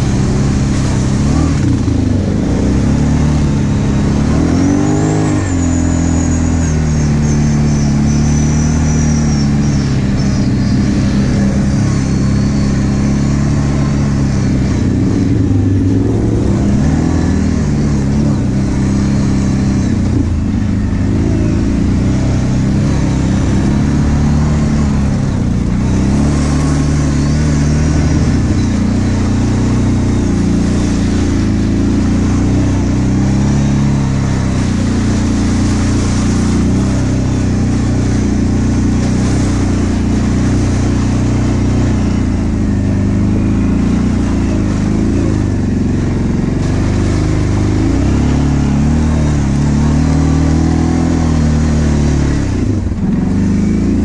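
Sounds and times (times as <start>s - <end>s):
quad engine revving under load: 0.0s - 54.0s.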